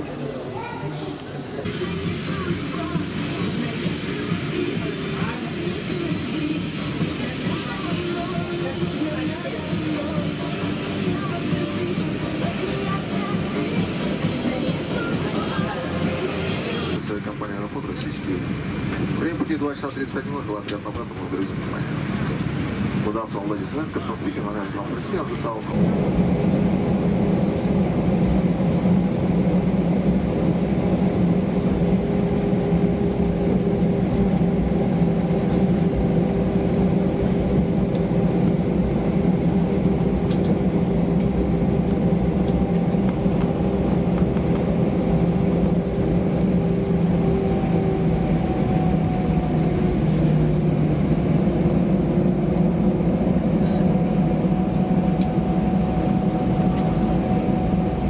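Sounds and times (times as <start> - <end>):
aircraft engine drone: 1.6 - 58.0.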